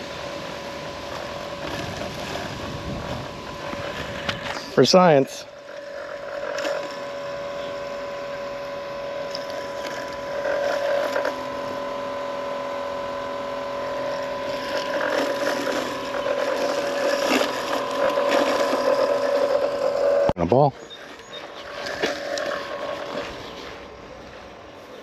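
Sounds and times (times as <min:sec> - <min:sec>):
robotic mower motors whining: 0:00.0 - 0:25.0.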